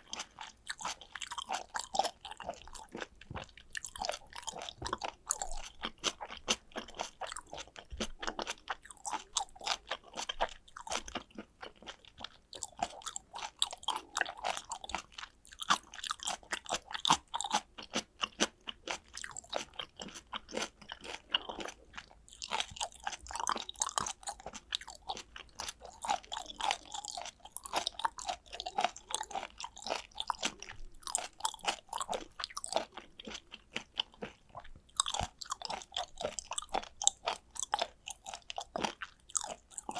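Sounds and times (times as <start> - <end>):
chewing raw fish: 0.0 - 39.9
mouth clicks and crunches: 0.0 - 39.9.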